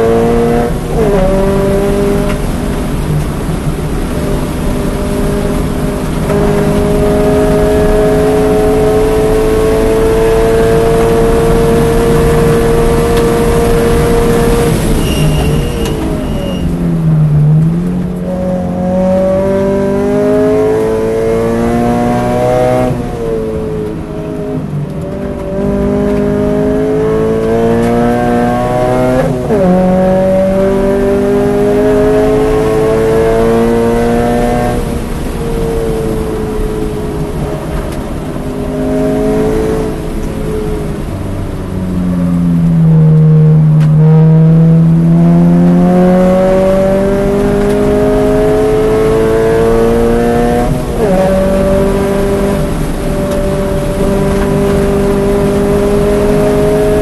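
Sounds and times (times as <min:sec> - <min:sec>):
car engine at full throttle: 0:00.0 - 0:57.0.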